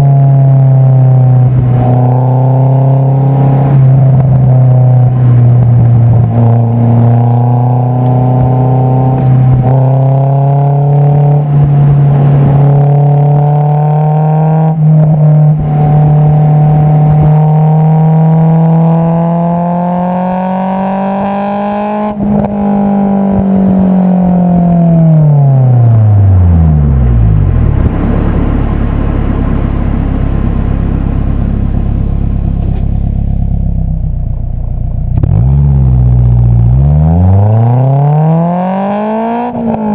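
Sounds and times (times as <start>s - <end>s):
car exhaust revving: 0.0s - 39.9s.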